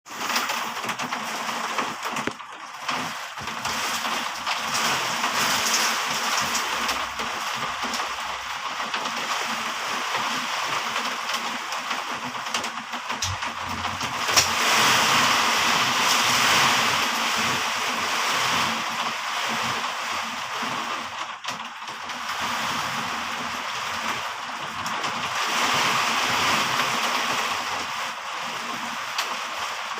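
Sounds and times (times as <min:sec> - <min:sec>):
heavy rain pouring: 0:00.1 - 0:29.9.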